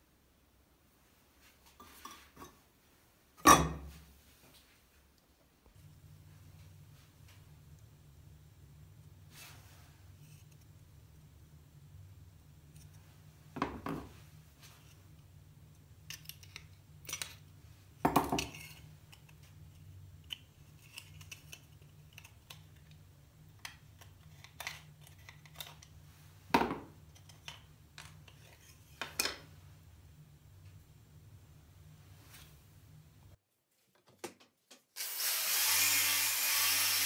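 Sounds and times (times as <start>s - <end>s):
low steady hum: 0.0s - 33.4s.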